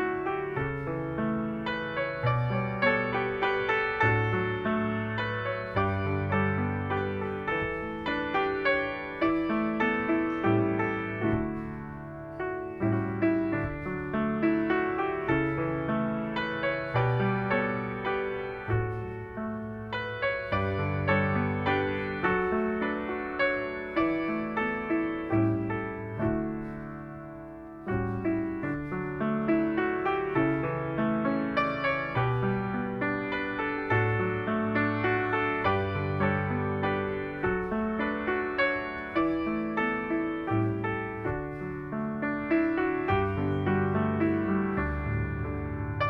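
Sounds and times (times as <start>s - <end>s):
solo piano playing gently: 0.0s - 46.0s.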